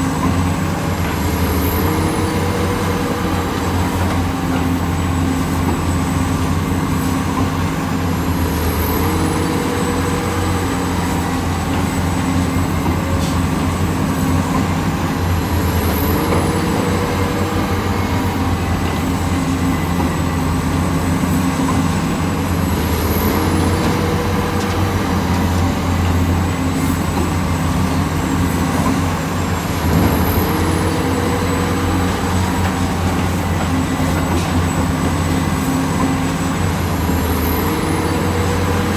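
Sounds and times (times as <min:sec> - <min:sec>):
excavator diesel engine running: 0:00.0 - 0:38.9
hydraulic whine: 0:00.0 - 0:38.9.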